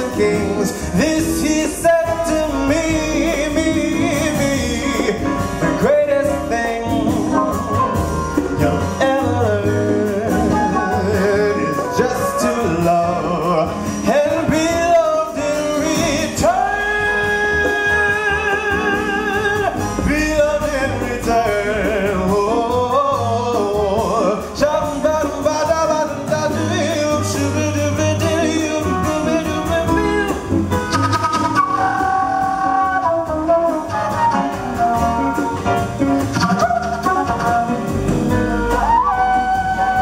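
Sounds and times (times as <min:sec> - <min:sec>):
double bass: 0:00.0 - 0:40.0
drums: 0:00.0 - 0:40.0
man singing jazz: 0:00.0 - 0:40.0
piano: 0:00.0 - 0:40.0.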